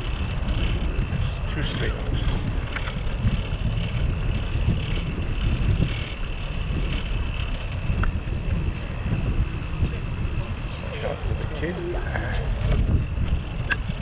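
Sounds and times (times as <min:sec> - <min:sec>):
bicycle road noise: 0:00.0 - 0:14.0
wind buffeting microphone: 0:00.0 - 0:14.0.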